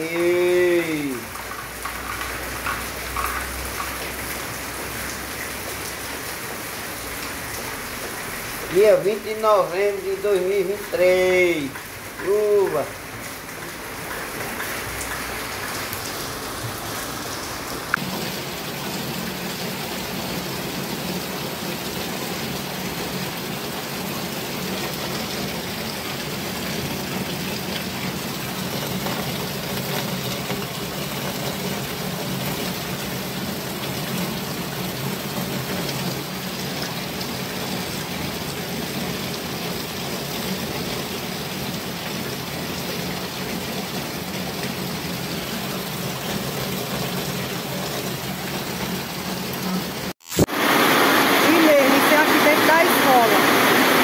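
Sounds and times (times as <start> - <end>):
heavy rain pattering on roofs: 0.0 - 54.0.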